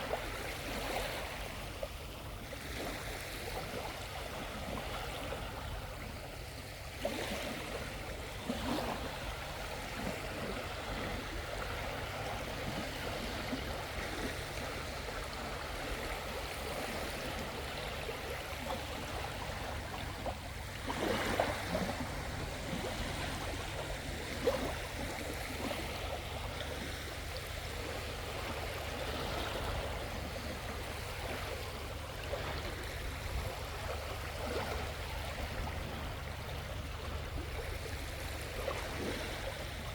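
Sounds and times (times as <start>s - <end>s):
sea water washing on shore: 0.0s - 39.9s
water splashes: 0.0s - 39.9s.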